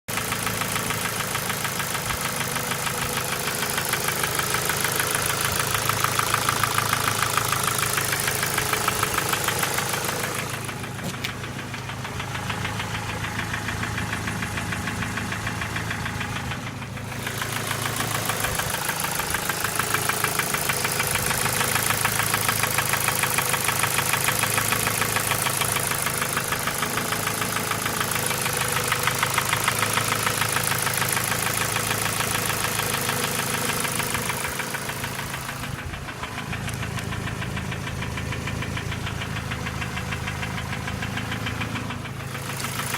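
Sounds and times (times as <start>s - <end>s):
car engine running: 0.1s - 42.9s
metallic engine knocking: 0.1s - 42.9s.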